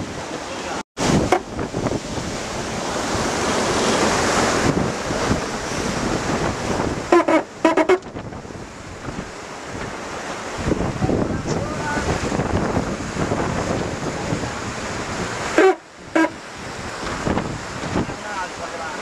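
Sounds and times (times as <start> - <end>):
water rushing along a hull: 0.0 - 19.0
wind buffeting microphone: 1.0 - 18.7.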